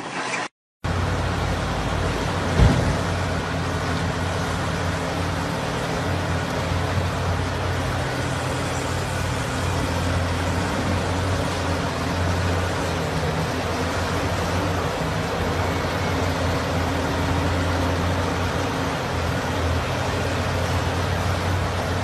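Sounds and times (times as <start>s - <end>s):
heavy machine engine running: 0.9s - 22.0s.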